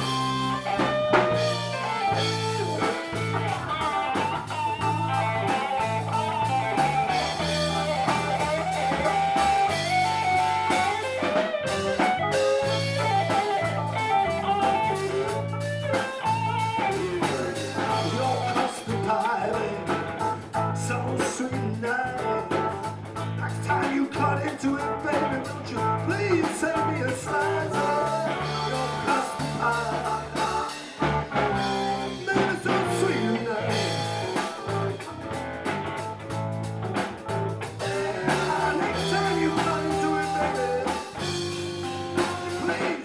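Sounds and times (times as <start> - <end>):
bass guitar: 0.0 - 43.0
drums: 0.0 - 43.0
electric guitar lead: 0.0 - 43.0.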